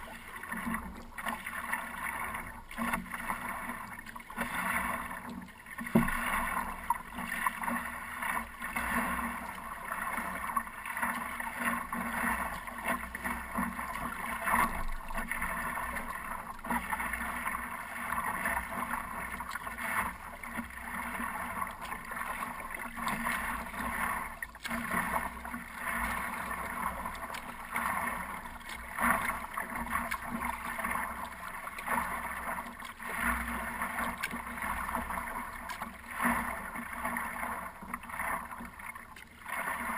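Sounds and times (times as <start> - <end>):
water lapping against paddleboard: 0.0 - 39.9.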